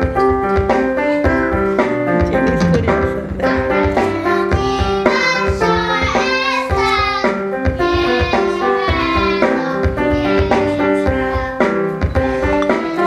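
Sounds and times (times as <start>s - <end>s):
piano: 0.0s - 13.0s
steady beat: 0.6s - 13.0s.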